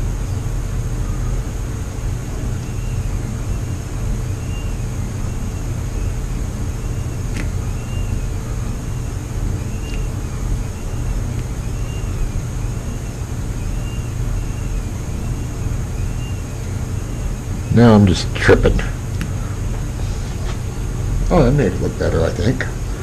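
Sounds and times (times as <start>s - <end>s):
faint rising and falling chirp: 0.0s - 23.0s
low machine hum: 0.0s - 23.0s.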